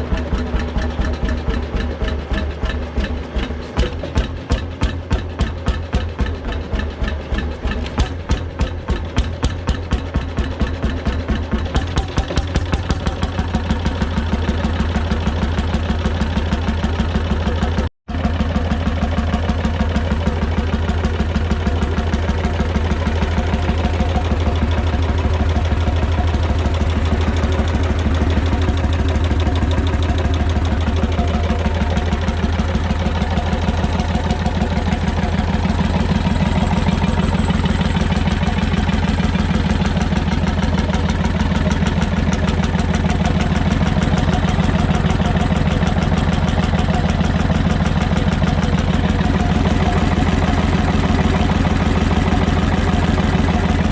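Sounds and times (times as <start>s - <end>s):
two-stroke engine running: 0.0s - 53.9s.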